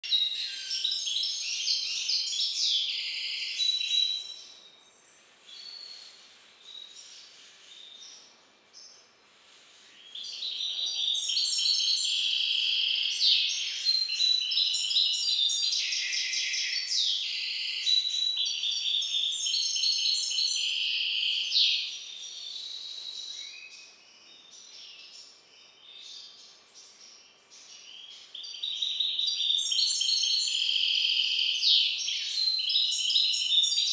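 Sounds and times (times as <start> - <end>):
finch singing trills: 0.0 - 9.1, 9.8 - 33.9.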